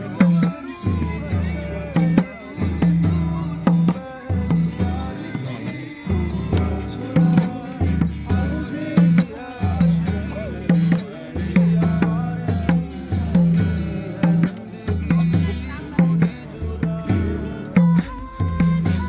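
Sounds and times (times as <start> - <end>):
deep drum beat: 0.0 - 19.0.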